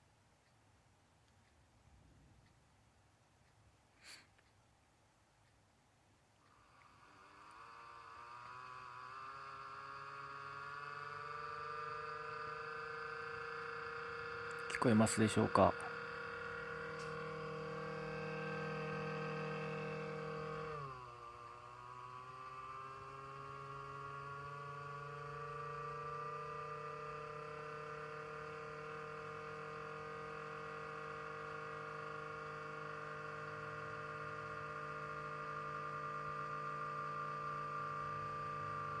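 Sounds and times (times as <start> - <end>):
computer cooling fan droning hum: 4.6 - 39.0.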